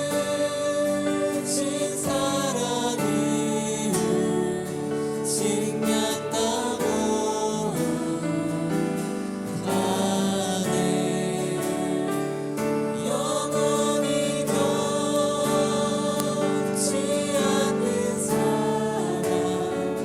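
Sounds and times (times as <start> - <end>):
instrumental accompaniment: 0.0 - 20.0
voices singing together: 0.0 - 20.0.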